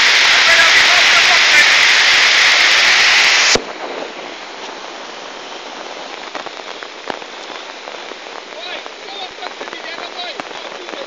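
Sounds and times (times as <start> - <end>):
rush of flooding water: 0.0 - 11.0
steady rain hiss: 0.0 - 11.0.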